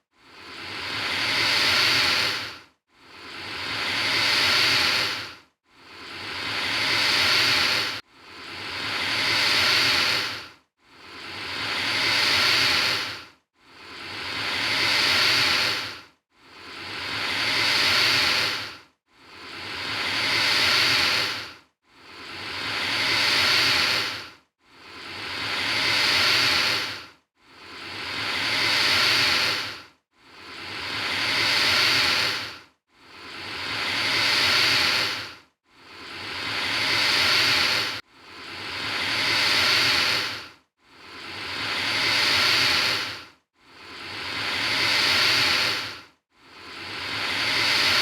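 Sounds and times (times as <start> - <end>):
alligator hissing: 0.4 - 2.5, 3.2 - 5.3, 5.9 - 10.4, 11.1 - 16.0, 16.7 - 24.2, 25.0 - 27.0, 27.7 - 29.8, 30.4 - 32.6, 33.2 - 40.4, 41.1 - 46.0, 46.7 - 48.0.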